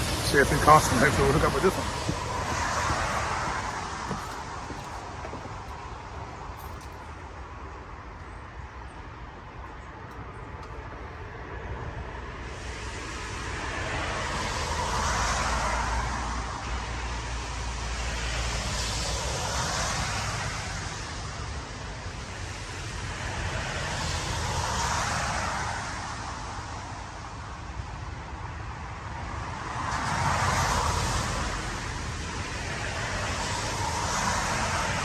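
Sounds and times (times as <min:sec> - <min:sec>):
cars passing: 0:00.0 - 0:27.8, 0:28.8 - 0:35.0.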